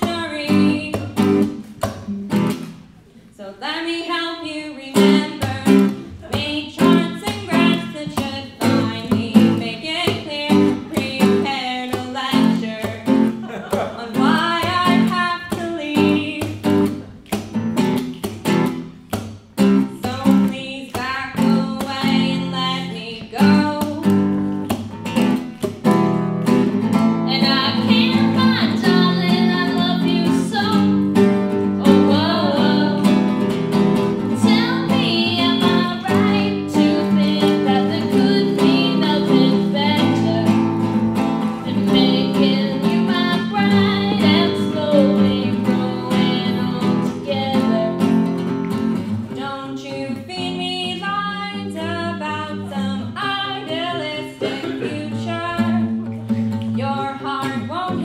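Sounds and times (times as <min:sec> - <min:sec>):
woman singing: 0:00.0 - 0:01.6, 0:03.4 - 0:17.0, 0:19.8 - 0:24.4, 0:27.3 - 0:48.4, 0:49.3 - 0:58.0
nylon-string guitar: 0:00.0 - 0:03.2, 0:04.7 - 0:58.0.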